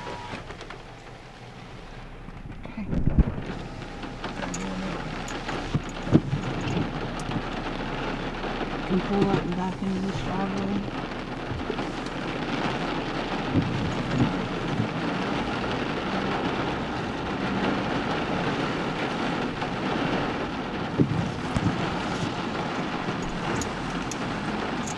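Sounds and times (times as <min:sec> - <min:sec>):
car driving on wet ground: 0:00.0 - 0:24.9.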